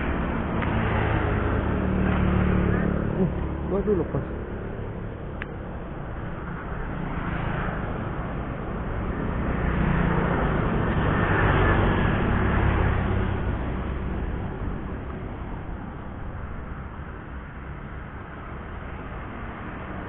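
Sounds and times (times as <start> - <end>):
vehicle passing: 0.0 - 20.0.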